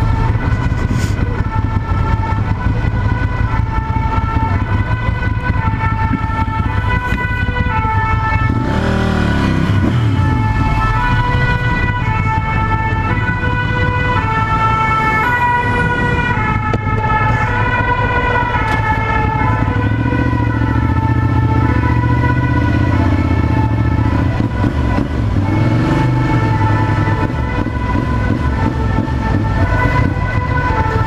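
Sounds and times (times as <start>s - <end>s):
motorcycle engine running: 0.0s - 31.0s
two-tone emergency siren: 0.0s - 31.0s.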